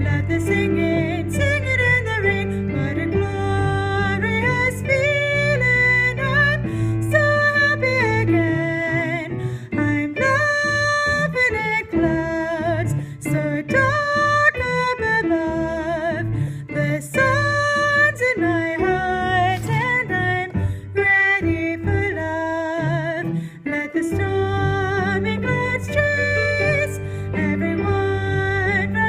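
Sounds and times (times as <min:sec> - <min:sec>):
instrumental accompaniment: 0:00.0 - 0:29.0
soprano singing with vibrato: 0:00.0 - 0:29.0.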